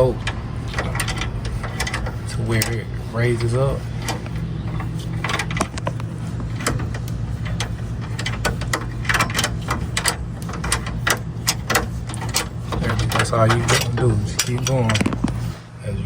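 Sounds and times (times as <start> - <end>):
metallic clicks and ratcheting: 0.0 - 15.5
steady low hum: 0.0 - 16.0.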